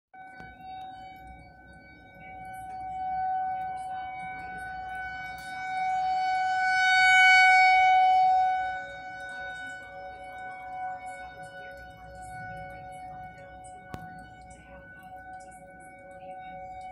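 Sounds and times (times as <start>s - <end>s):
rotating warning siren steady tone: 0.1s - 16.9s.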